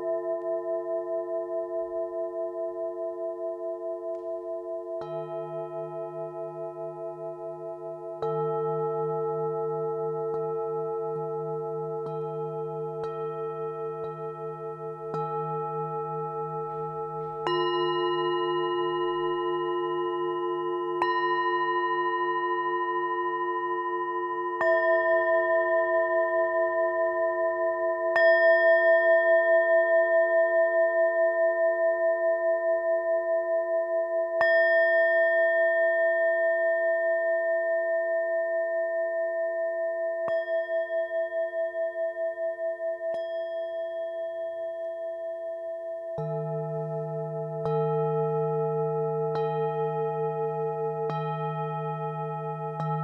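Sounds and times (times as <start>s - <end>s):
singing bowls ringing: 0.0s - 53.0s.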